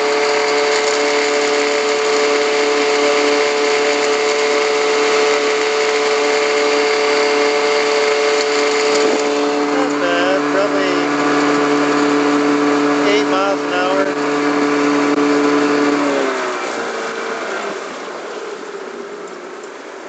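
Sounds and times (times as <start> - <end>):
outboard motor running steadily: 0.0 - 20.0.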